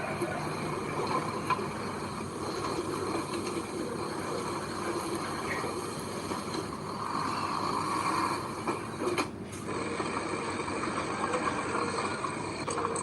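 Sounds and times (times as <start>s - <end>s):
heavy machinery engine running: 0.0s - 13.0s.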